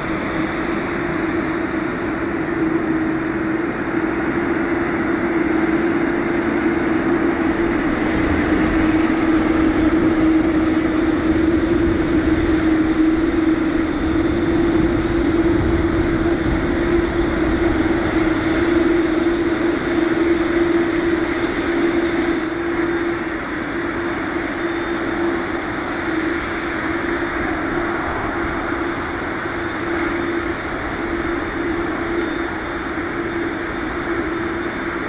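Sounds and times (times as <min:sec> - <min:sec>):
jet engines idling: 0:00.0 - 0:35.0.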